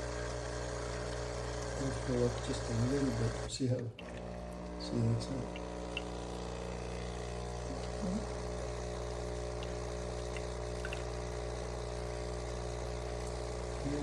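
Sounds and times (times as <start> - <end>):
kitchen appliance electric hum: 0.0 - 14.0.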